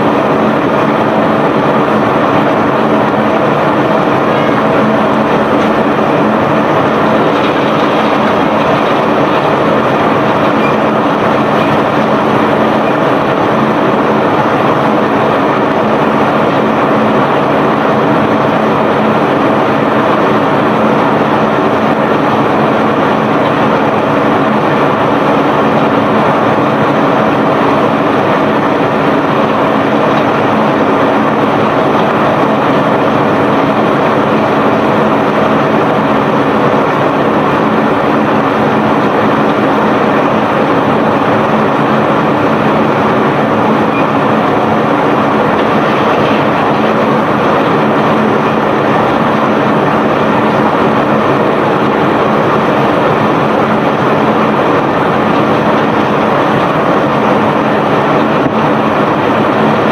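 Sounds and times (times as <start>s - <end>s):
conveyor and engine running: 0.0s - 59.9s
rumble of moving ore: 0.0s - 59.9s.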